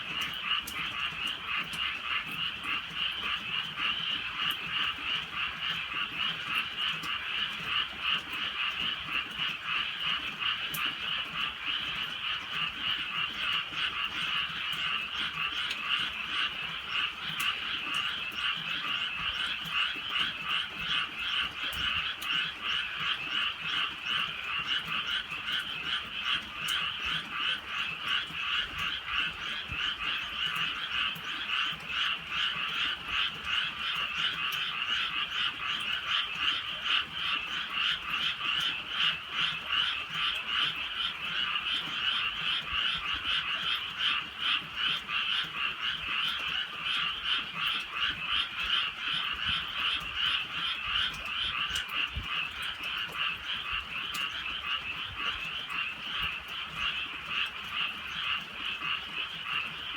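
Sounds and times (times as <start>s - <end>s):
chorus of frogs croaking: 0.0s - 59.9s.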